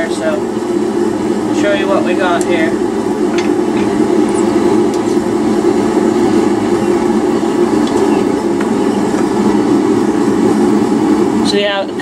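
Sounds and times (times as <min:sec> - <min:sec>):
forge rushing noise: 0:00.0 - 0:12.0.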